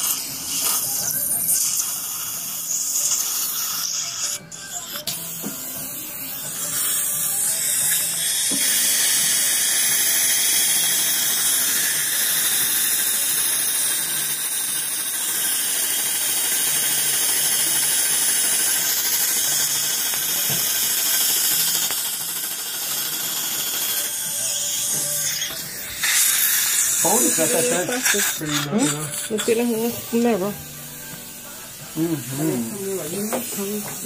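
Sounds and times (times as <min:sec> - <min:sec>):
dental equipment hissing: 0:00.0 - 0:34.0.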